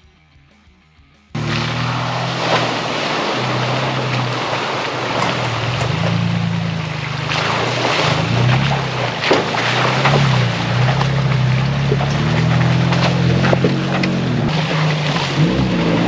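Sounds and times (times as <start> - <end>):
car engine running: 1.4 - 16.0
tyres splashing through mud: 1.4 - 16.0.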